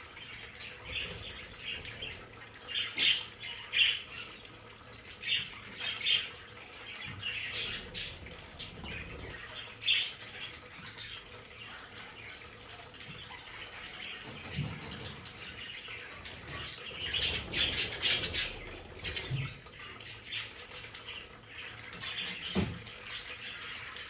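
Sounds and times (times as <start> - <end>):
budgerigars chirping and squawking: 0.2 - 24.0.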